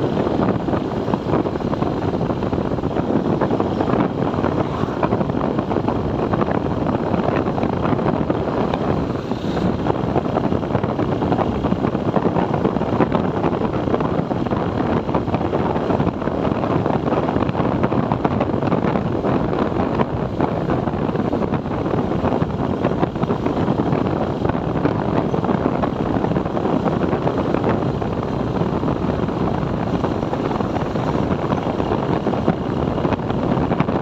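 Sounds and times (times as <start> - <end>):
road noise: 0.0 - 34.0
wind rushing over microphone: 0.0 - 34.0.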